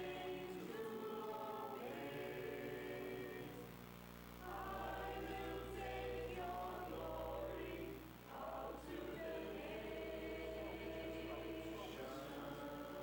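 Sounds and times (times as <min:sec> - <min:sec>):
choir singing: 0:00.0 - 0:03.7, 0:04.4 - 0:13.0.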